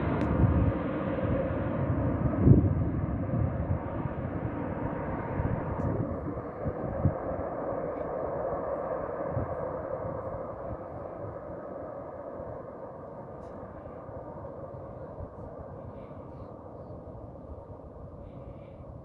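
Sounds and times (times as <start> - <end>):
distant jet engines rumbling: 0.0 - 19.0.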